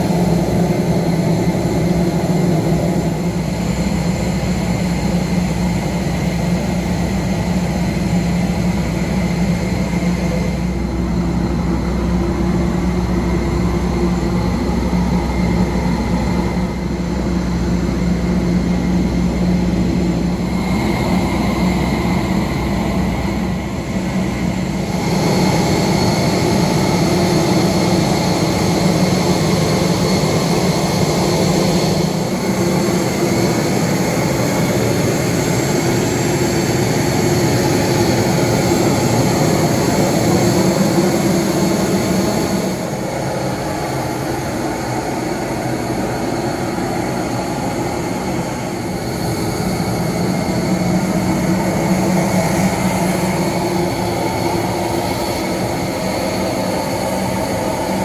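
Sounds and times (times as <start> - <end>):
airplane cabin hum: 0.0 - 58.0.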